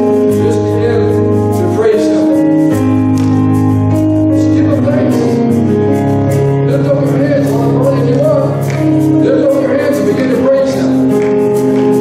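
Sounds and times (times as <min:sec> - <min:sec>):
keyboard chords: 0:00.0 - 0:12.0.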